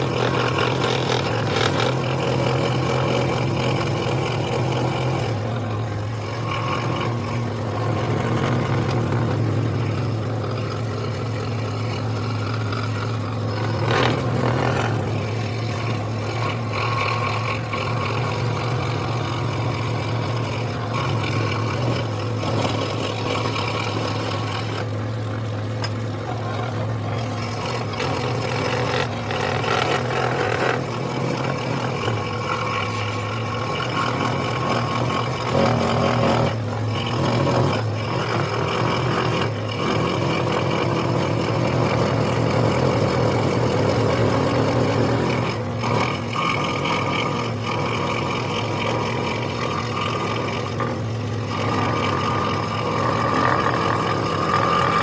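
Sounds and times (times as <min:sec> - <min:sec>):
saw blade cutting wood: 0:00.0 - 0:55.0
saw motor hum: 0:00.0 - 0:55.0.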